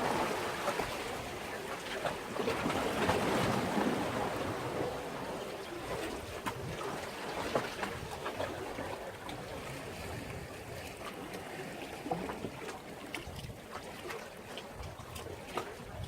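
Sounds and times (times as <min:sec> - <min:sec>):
sea waves lapping against breakwater: 0:00.0 - 0:16.0.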